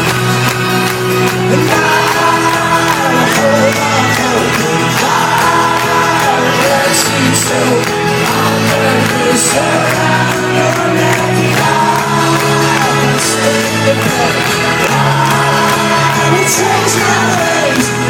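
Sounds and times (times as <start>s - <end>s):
crowd noise: 0.0s - 18.0s
rock and marching band playing: 0.0s - 18.0s.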